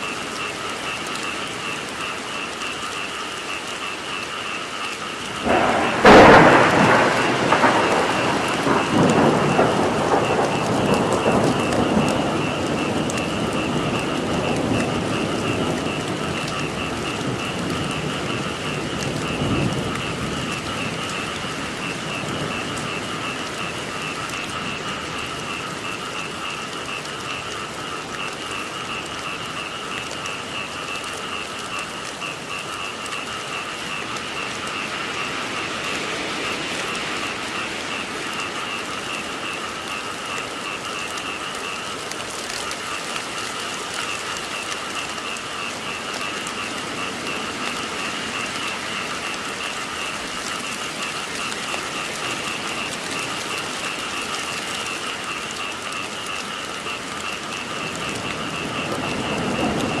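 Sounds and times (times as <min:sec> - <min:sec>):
frogs calling: 0:00.0 - 1:00.0
steady rain hissing: 0:00.0 - 1:00.0.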